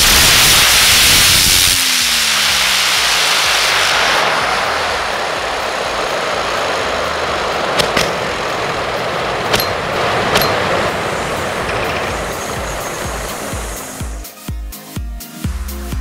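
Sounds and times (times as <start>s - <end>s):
sharp cracks: 0.0s - 14.1s
rocket motors hissing: 0.0s - 14.3s.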